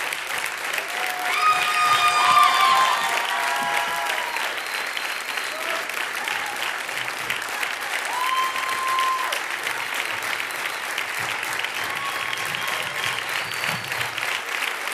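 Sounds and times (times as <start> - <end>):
audience clapping: 0.0 - 14.9.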